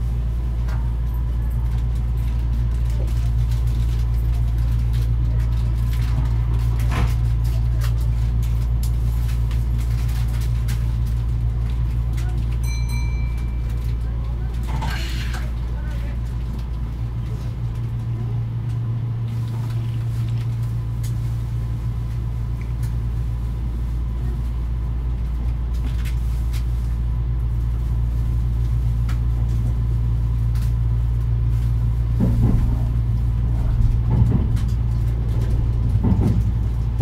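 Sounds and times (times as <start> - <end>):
train running rumble: 0.0 - 37.0.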